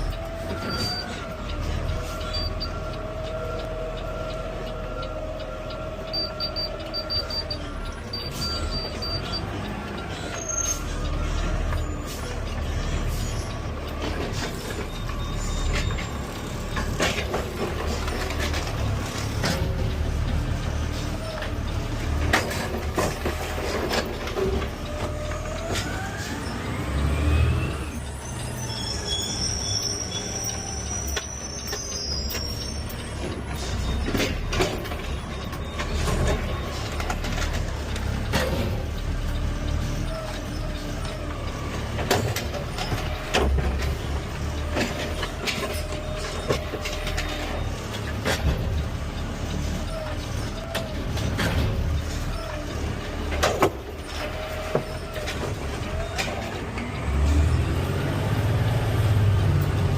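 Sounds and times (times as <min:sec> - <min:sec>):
garbage truck engine rumble: 0:00.0 - 0:59.9.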